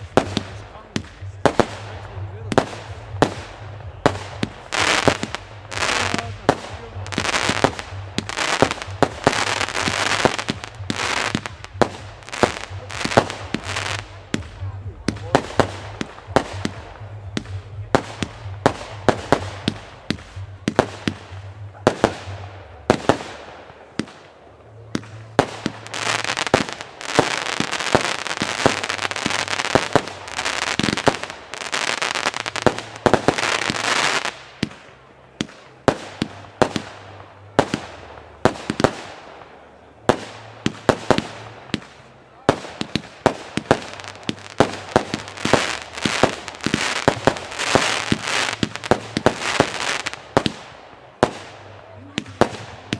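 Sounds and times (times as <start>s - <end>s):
fireworks crackling rush: 0.0s - 52.9s
fireworks shots bursting: 0.0s - 52.9s.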